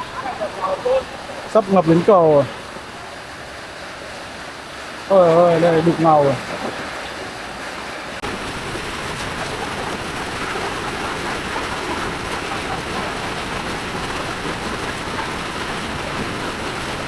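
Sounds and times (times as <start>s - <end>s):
heavy rain: 0.0s - 17.0s
river rushing: 0.0s - 17.0s.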